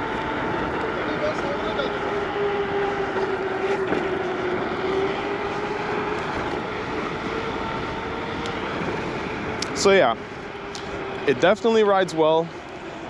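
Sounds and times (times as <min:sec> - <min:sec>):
electric motor whine: 0:00.0 - 0:13.0
wind and tyre noise: 0:00.0 - 0:13.0.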